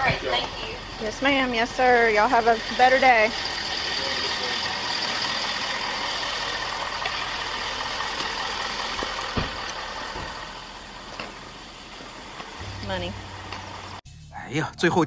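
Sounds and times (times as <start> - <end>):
engine-like running noise: 0.0 - 14.5.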